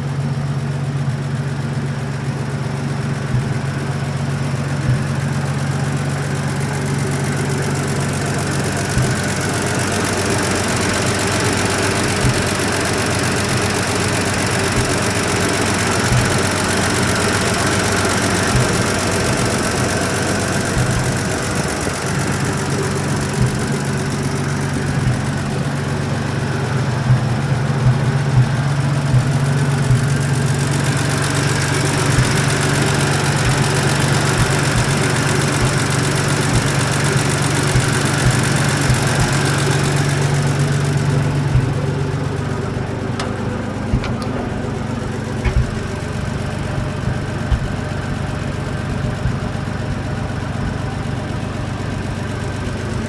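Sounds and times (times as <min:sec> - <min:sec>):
fire truck engine idling: 0:00.0 - 0:53.0.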